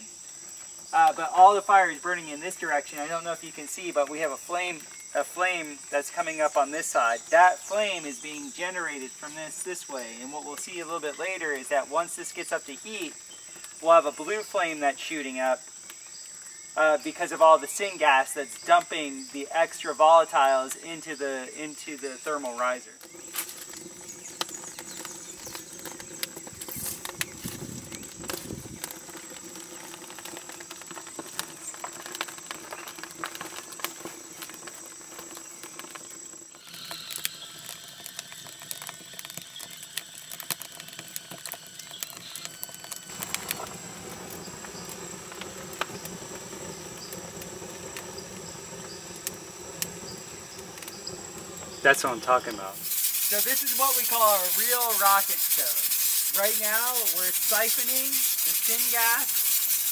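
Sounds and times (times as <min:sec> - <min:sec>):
insects chirring: 0:00.0 - 0:59.9
wood fire crackling and popping: 0:00.0 - 0:59.9.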